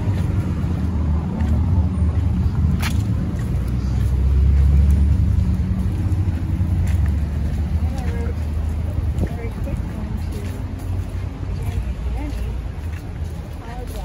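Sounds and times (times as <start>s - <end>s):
street traffic rumble: 0.0s - 14.0s
vehicle passing: 0.0s - 14.0s.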